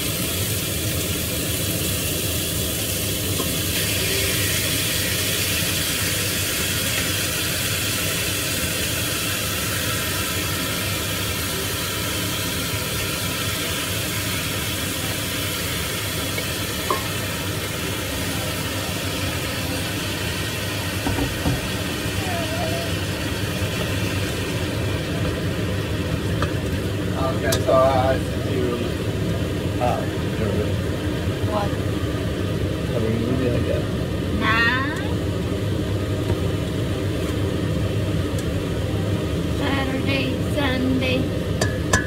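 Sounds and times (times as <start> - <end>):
pot cooking with steady hiss: 0.0 - 42.0.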